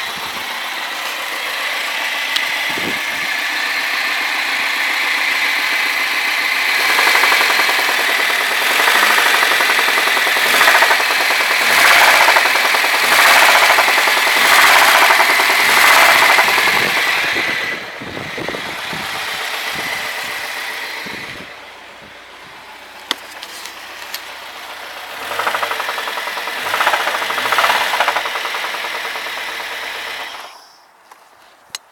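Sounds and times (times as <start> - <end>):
engine knocking rattle: 0.0 - 22.2, 22.8 - 30.6.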